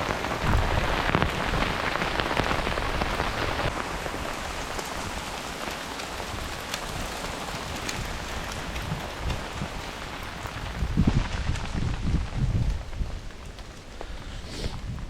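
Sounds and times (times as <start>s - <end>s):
rain falling: 0.0s - 15.0s
raindrop ticks: 0.0s - 15.0s.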